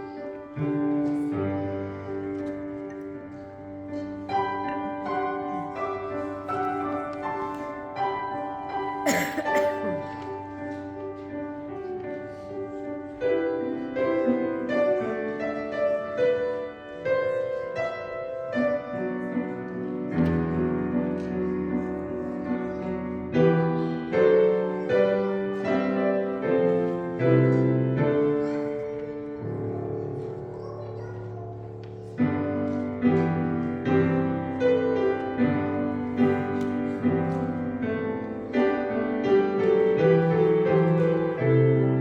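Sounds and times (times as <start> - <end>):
slow piano piece: 0.0 - 42.0.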